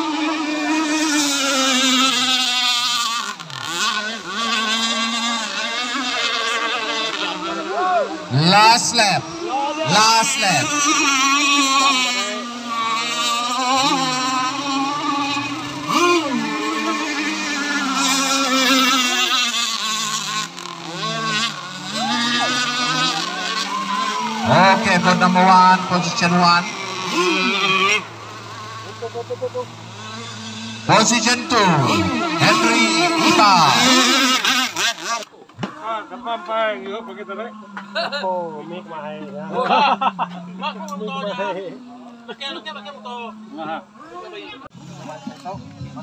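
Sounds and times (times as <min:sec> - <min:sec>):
model powerboat engines whining: 0:00.0 - 0:46.0.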